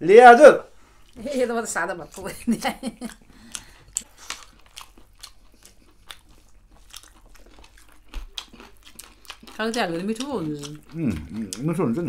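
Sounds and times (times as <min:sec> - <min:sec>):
person chewing with crunches: 0:00.9 - 0:01.3, 0:02.0 - 0:12.0.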